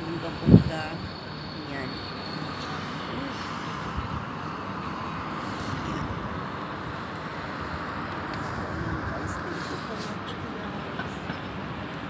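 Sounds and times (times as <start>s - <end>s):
distant city traffic: 0.0s - 12.0s.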